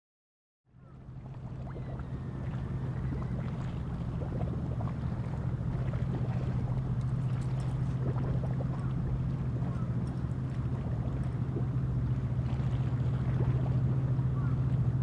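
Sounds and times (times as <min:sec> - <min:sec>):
low engine drone: 0:00.7 - 0:15.0
rush of water and wind: 0:00.8 - 0:15.0
small splashes and crackles: 0:00.9 - 0:15.0.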